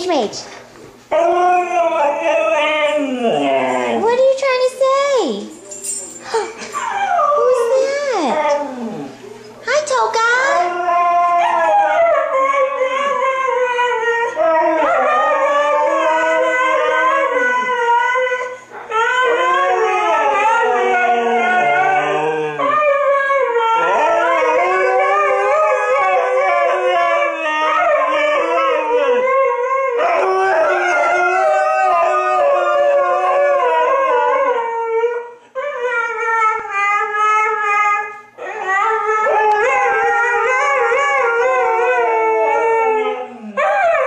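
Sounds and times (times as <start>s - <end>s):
dogs howling: 1.1s - 4.6s, 6.6s - 9.3s, 10.3s - 44.0s.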